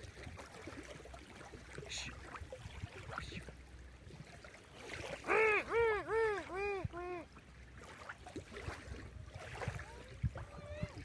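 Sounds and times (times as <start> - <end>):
light water sounds: 0.0 - 11.0
low sea rumble: 0.0 - 11.0.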